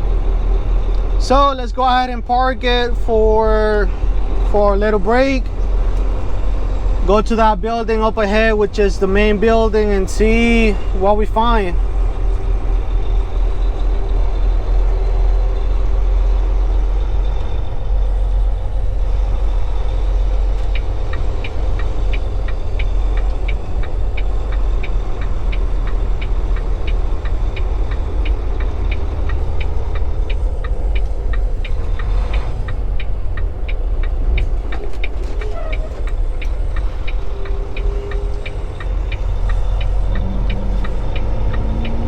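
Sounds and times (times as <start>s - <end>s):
diesel truck engine rumbling: 0.0s - 42.0s
turn signal ticking: 0.0s - 42.0s.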